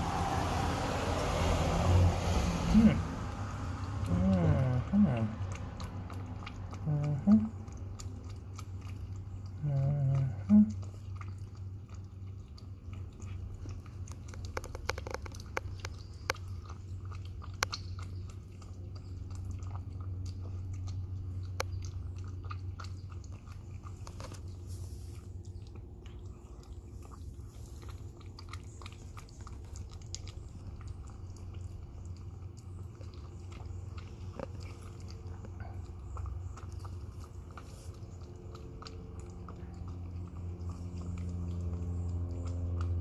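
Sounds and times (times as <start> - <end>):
cat chewing and lapping food: 0.0 - 43.0
steady low hum: 0.0 - 43.0.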